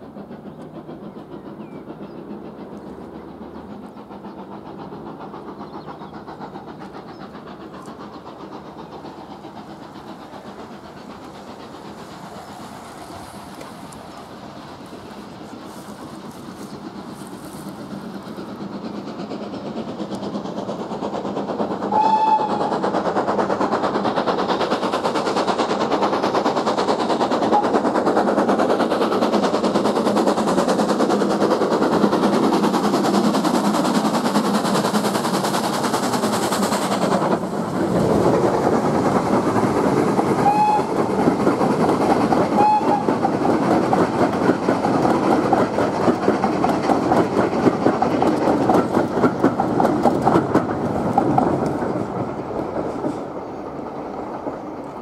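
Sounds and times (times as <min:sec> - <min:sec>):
clickety-clack over rail joints: 0:00.0 - 0:55.0
steam train rushing past: 0:00.0 - 0:55.0.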